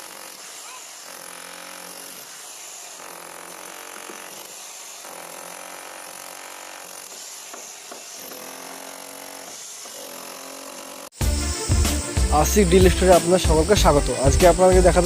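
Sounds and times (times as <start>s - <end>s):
power saw cutting concrete: 0.0s - 15.0s.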